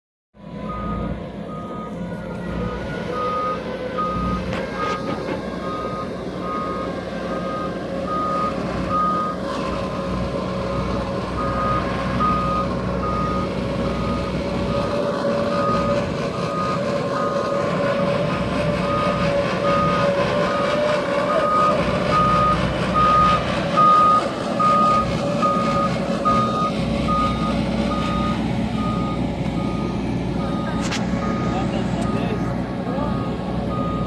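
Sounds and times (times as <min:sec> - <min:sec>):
engine drone with rising whine: 0:00.4 - 0:34.0
reversing alarm beeping: 0:00.4 - 0:34.0.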